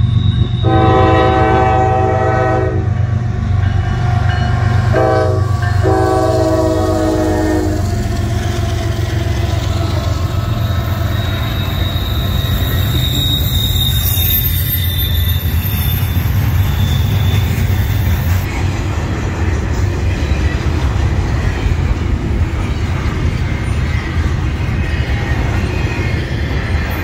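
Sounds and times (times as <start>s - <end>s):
freight train rumbling on rails: 0.0s - 27.0s
train wheel squeal: 0.0s - 27.0s.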